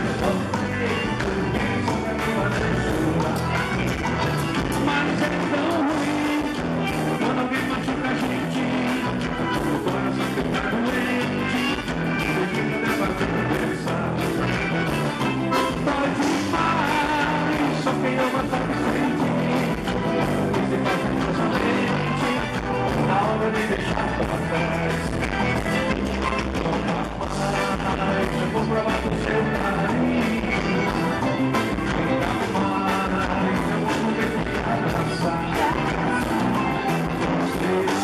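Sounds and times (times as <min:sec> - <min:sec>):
live band music over pa: 0:00.0 - 0:38.0
person singing: 0:00.0 - 0:38.0.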